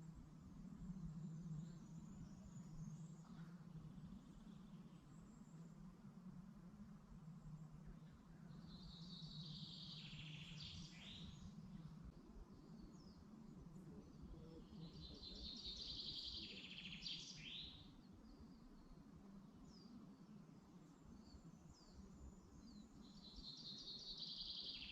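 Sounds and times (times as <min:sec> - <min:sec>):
faint low background rumble: 0:00.0 - 0:24.6.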